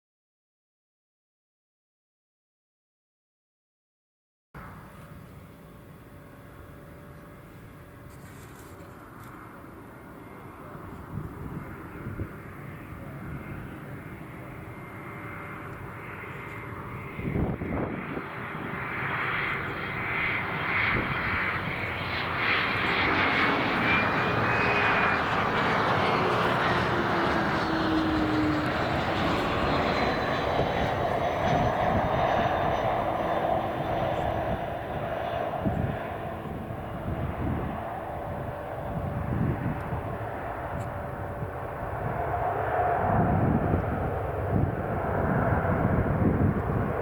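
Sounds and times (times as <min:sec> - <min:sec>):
jet engines whining: 0:04.6 - 0:47.0.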